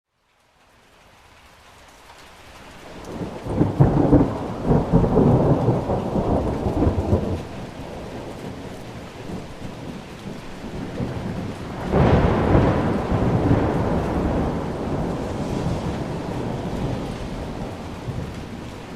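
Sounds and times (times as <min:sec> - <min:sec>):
steady rain: 0:00.1 - 0:18.9
thunder rolling: 0:03.1 - 0:18.9.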